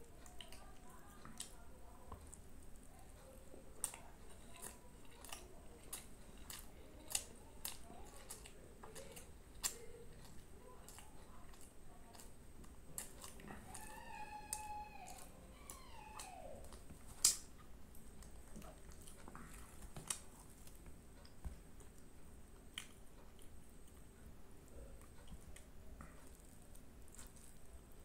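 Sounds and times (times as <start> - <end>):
chewing food with mouth clicks: 0.0 - 28.0.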